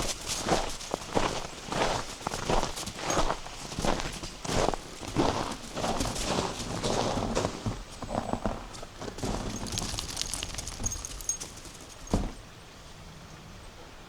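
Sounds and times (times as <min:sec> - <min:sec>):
footsteps crunching on frozen snow: 0:00.0 - 0:12.0.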